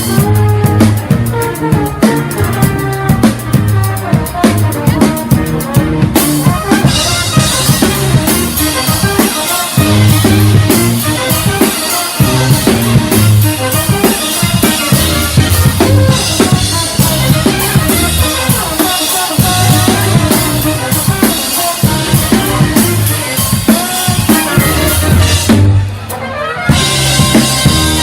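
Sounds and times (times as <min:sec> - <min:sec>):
brass band playing: 0:00.0 - 0:28.0
drum kit beat: 0:00.0 - 0:28.0.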